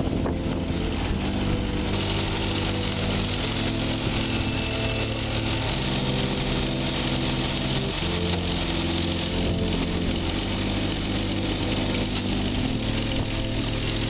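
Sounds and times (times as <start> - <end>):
noisy hiss: 0.0 - 14.0
steady pitched tones: 0.0 - 14.0.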